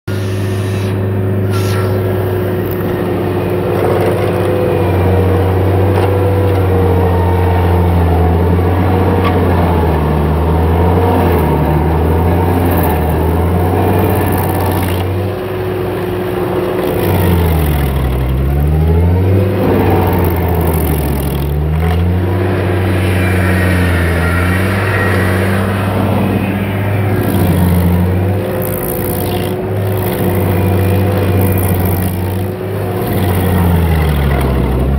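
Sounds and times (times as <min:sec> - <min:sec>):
cutter wheel grinding stump: 0:00.1 - 0:34.9
stump grinder engine: 0:00.1 - 0:34.9.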